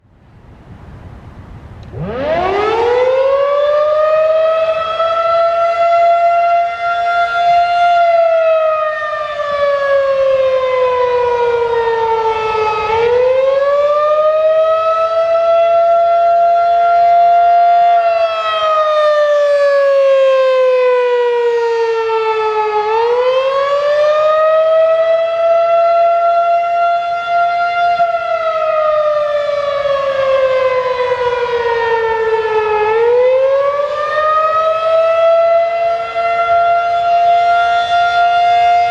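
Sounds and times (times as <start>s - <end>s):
rotating siren wailing: 1.8s - 38.9s.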